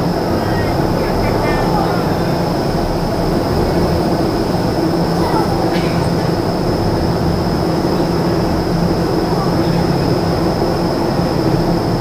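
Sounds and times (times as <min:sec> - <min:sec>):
constant low hum: 0:00.0 - 0:12.0
roar of rushing air and fans: 0:00.0 - 0:12.0.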